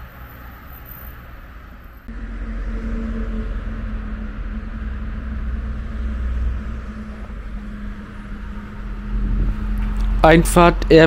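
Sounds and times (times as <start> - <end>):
electric train rumbling: 0.0 - 11.0
road traffic: 0.0 - 11.0
steady low hum: 1.6 - 11.0.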